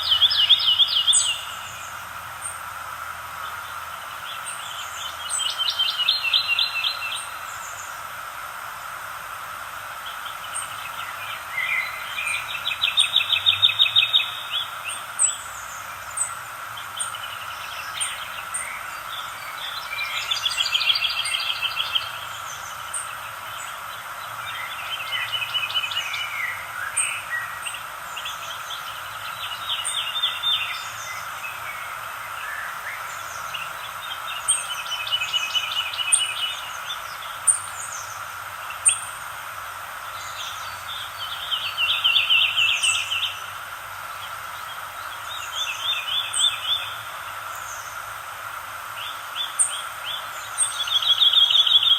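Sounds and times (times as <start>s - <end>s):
birds singing and chirping: 0.0s - 8.1s, 10.0s - 51.9s.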